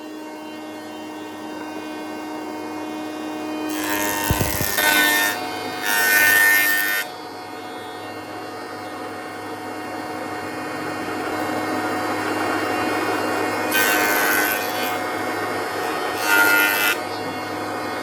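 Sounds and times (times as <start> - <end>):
power tool cutting wood: 1.7 - 18.0.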